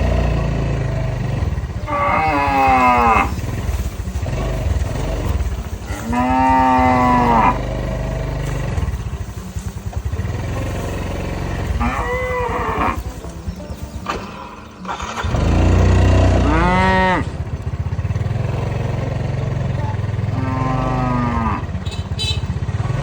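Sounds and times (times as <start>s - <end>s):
cows mooing: 0.0s - 21.8s
steady low rumble: 0.0s - 21.8s.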